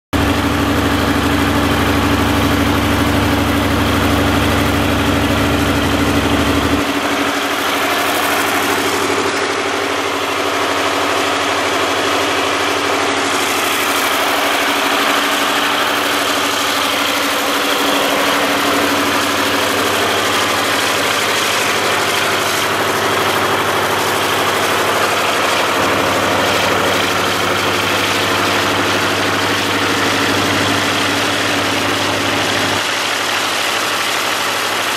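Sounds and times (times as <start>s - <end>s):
diesel generator drone: 0.1s - 34.9s.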